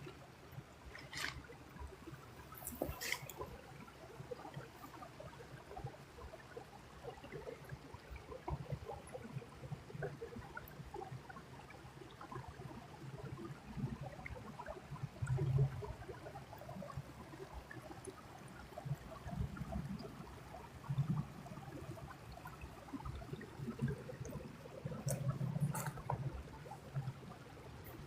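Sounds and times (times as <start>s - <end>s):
creek water trickling: 0.0s - 28.0s.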